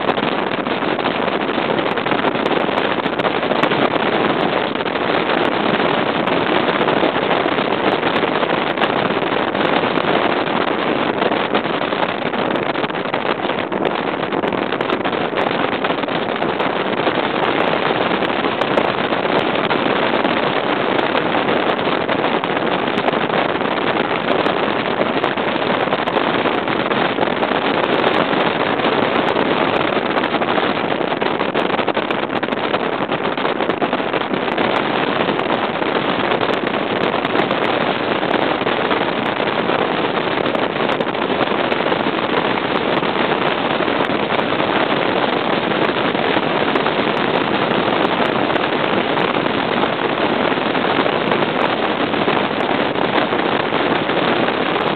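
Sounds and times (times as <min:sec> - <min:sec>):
boat wind and water rush: 0:00.0 - 0:54.9.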